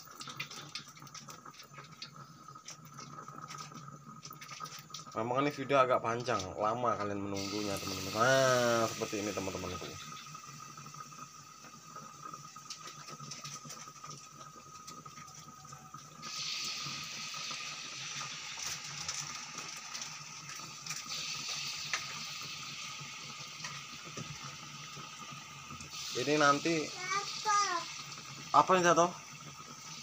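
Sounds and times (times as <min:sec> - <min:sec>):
deep-frying sizzle with crackles: 0:00.0 - 0:30.0.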